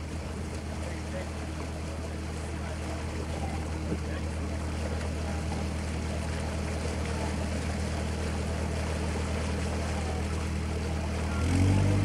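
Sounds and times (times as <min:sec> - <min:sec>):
boat diesel engine humming: 0:00.0 - 0:12.0.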